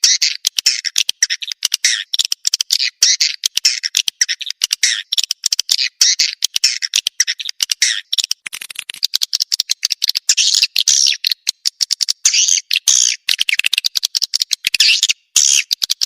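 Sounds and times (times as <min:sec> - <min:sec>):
swiftlet chatter of clicks and chirps: 0:00.0 - 0:16.0.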